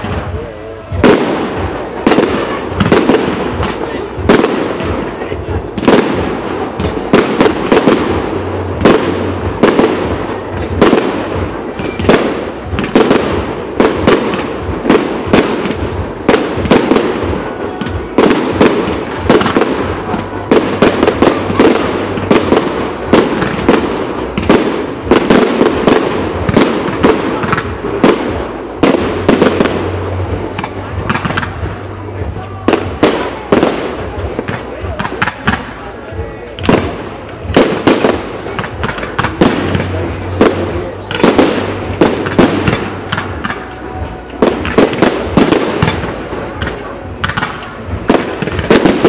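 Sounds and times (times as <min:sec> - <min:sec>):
firework bangs: 0:00.0 - 0:49.0
firework crackle: 0:00.0 - 0:49.0.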